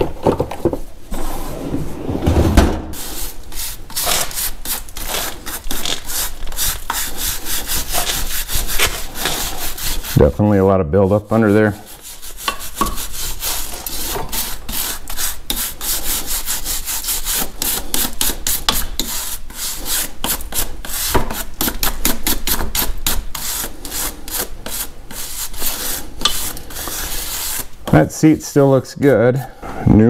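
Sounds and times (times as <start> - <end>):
brush scrubbing rust off metal: 3.0 - 28.7.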